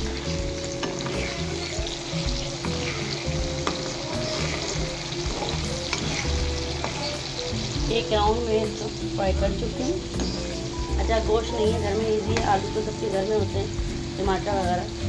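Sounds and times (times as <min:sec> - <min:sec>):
fries sizzling in oil: 0:00.0 - 0:15.0.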